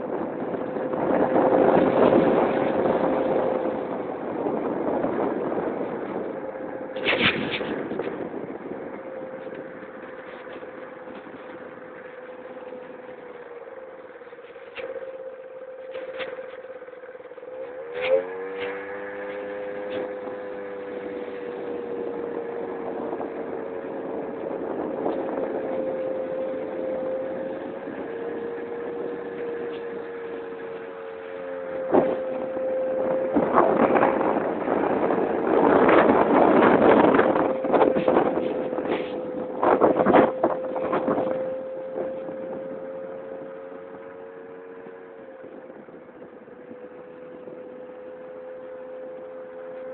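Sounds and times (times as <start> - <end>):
scooter engine droning: 0.0 - 49.9.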